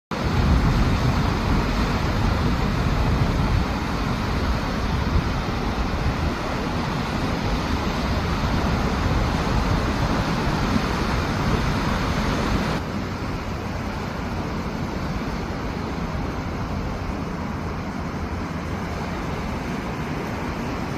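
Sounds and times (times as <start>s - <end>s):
sea waves breaking on shore: 0.1s - 20.9s
wind rumbling on microphone: 0.1s - 20.9s.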